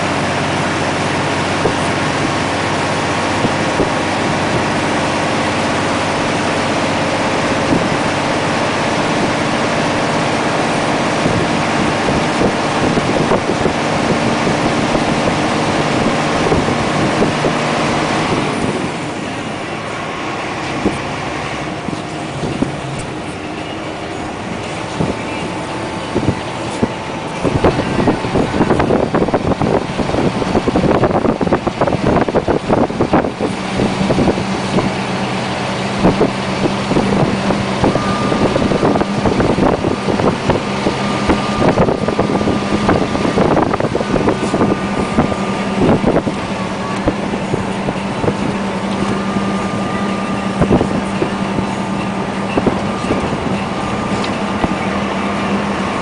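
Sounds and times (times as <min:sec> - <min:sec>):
truck diesel engine pulling hard: 0:00.0 - 0:56.0.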